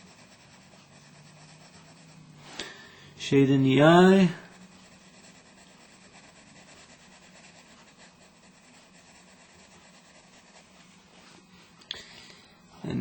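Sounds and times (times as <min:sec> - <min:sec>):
coloring tool scratching paper: 0:00.0 - 0:11.8.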